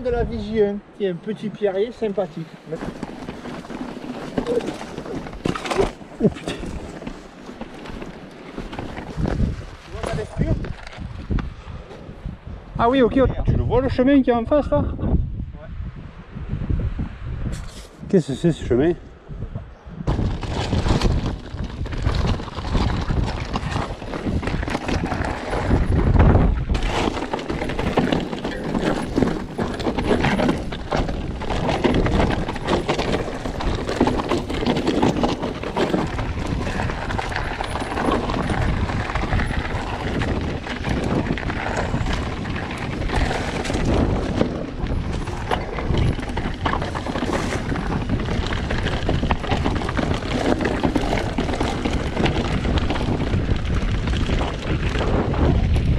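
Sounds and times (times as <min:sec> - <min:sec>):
bike tyres clattering over stones: 0:01.5 - 0:11.5, 0:20.0 - 0:55.9
bike knocking and rattling: 0:01.8 - 0:12.1, 0:20.0 - 0:55.9.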